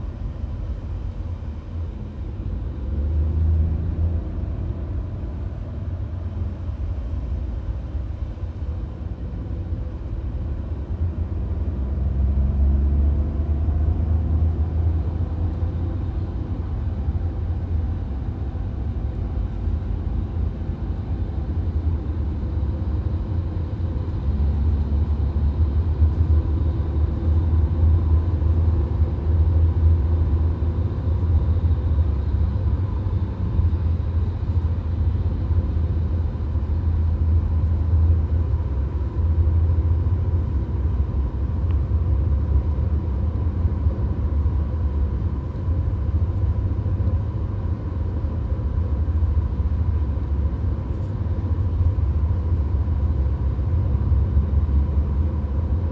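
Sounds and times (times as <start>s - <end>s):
faint steady hum: 0.0s - 55.9s
road and engine rumble: 0.0s - 55.9s.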